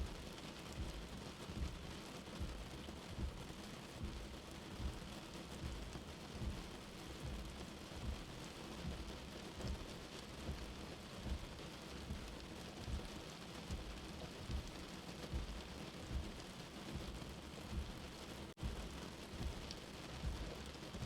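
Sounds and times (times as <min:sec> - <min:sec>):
soft heartbeat-like thump: 0:00.0 - 0:21.0
steady rain: 0:00.0 - 0:21.0.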